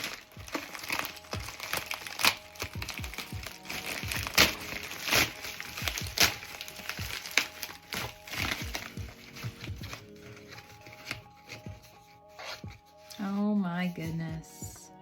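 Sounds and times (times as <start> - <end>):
packaging crinkling: 0.0 - 13.1
background music: 0.0 - 15.0.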